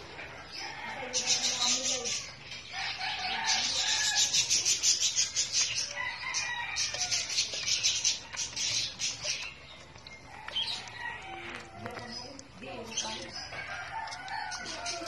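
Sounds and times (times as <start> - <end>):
puppies crunching kibble: 0.0 - 15.0.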